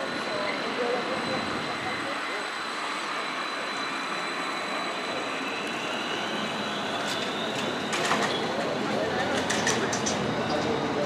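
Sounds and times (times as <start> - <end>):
street noise: 0.0 - 11.0
trolleybus traction whine: 0.0 - 11.0.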